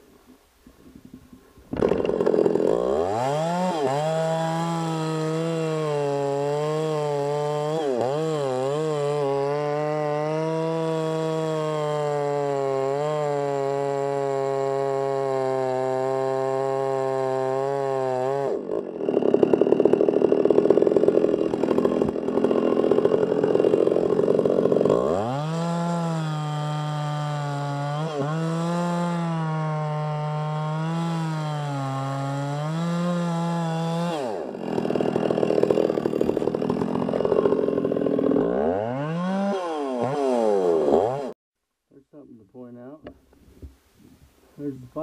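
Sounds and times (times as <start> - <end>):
chainsaw cutting wood: 1.1 - 41.4.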